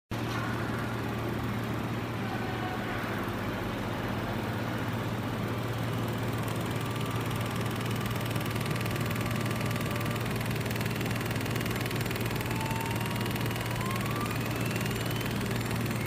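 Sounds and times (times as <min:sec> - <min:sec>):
welding machine electrical hum: 0:02.8 - 0:16.0.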